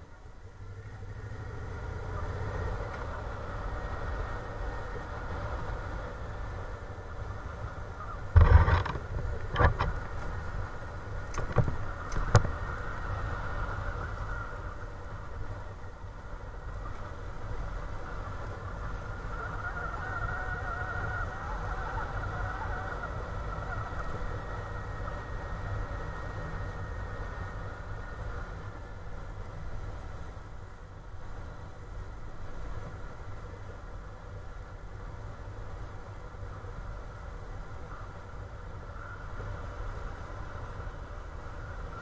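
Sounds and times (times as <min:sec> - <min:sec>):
wind rumbling on microphone: 0:00.0 - 0:42.0.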